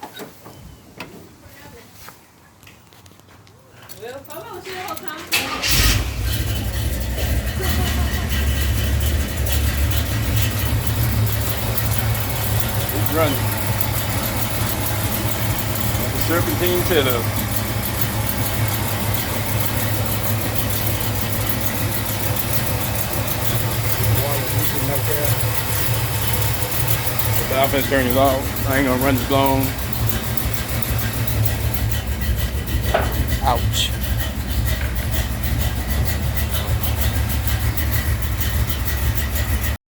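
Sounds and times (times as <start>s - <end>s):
car engine idling: 4.4s - 39.8s
fast regular ticking: 5.4s - 39.8s.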